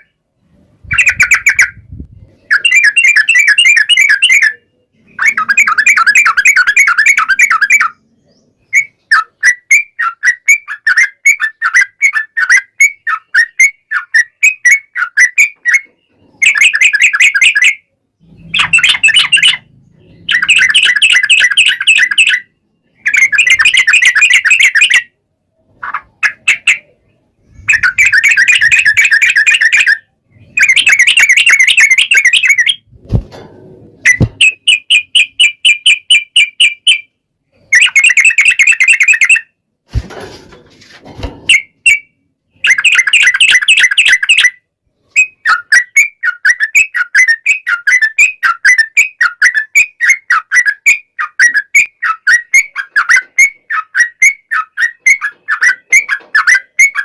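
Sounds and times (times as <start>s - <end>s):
bulbul singing chattering song: 0.8s - 32.9s, 34.0s - 39.6s, 41.5s - 57.0s.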